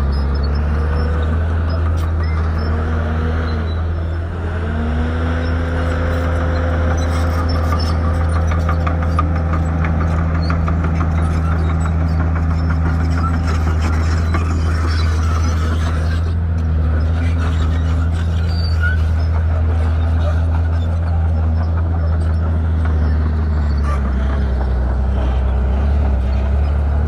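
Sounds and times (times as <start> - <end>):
bulldozer diesel engine whine: 0.0 - 27.0.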